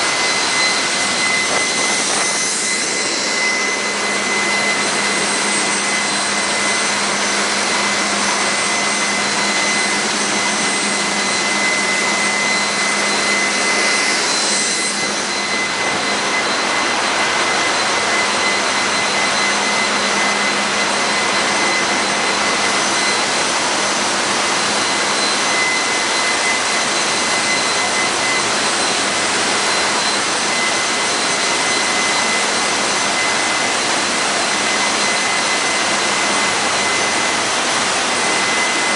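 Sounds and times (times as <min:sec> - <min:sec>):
engine room machinery roar: 0:00.0 - 0:38.9
high steady whine tones: 0:00.0 - 0:38.9.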